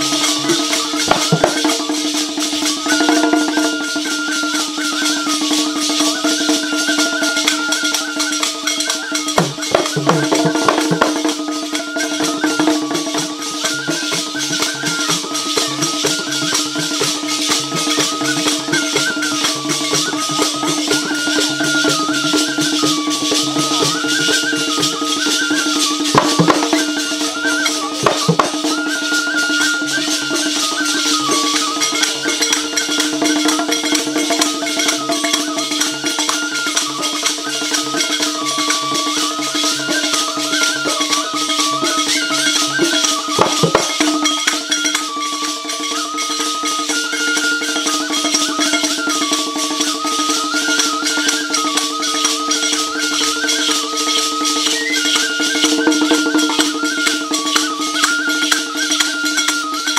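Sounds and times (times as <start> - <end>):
bamboo flute melody: 0.0 - 59.9
barrel drum: 0.0 - 59.9
rattling percussion: 0.0 - 59.9.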